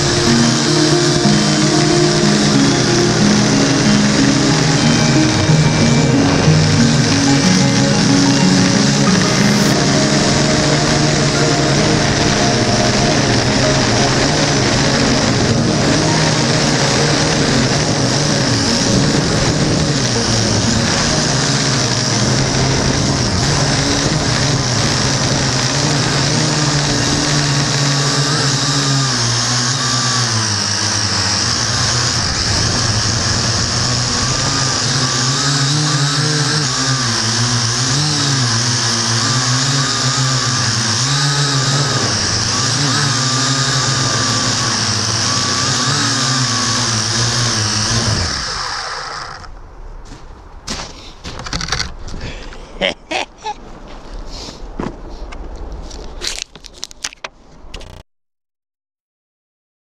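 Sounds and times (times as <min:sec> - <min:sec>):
drone motors and propellers whining: 0:00.0 - 0:49.7.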